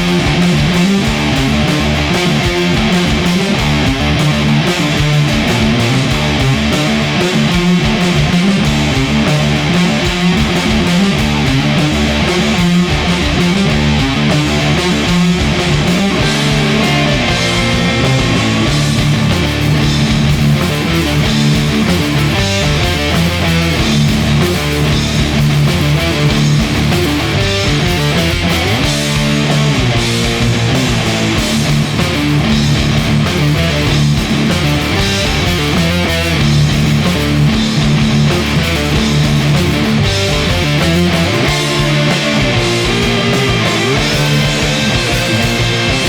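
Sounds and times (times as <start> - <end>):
heavy rock band playing: 0.0 - 46.0.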